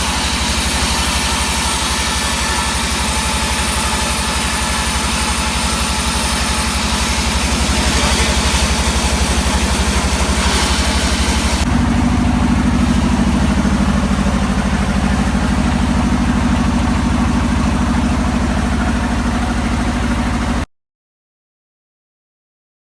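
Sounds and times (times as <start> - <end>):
sawmill engine running: 0.0 - 20.7.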